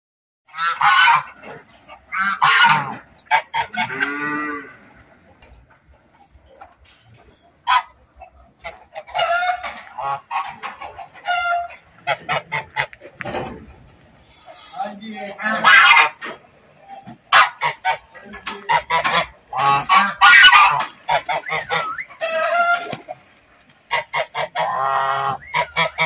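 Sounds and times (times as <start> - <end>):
geese honking: 0.5 - 26.0.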